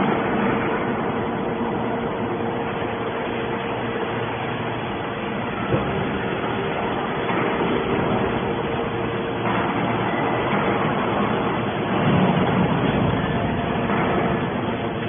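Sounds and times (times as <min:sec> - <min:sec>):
baler machine drone: 0:00.0 - 0:15.0.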